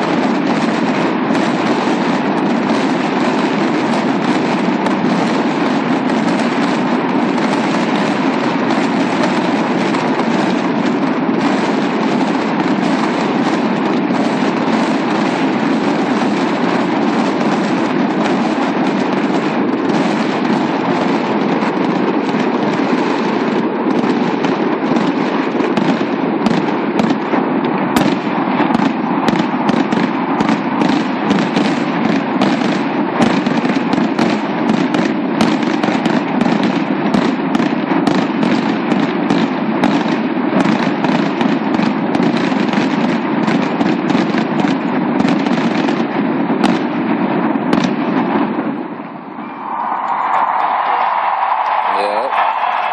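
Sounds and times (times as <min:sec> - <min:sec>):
dense wash of noise: 0:00.0 - 0:45.0, 0:47.1 - 0:52.9
fireworks cracking and popping: 0:00.0 - 0:52.9.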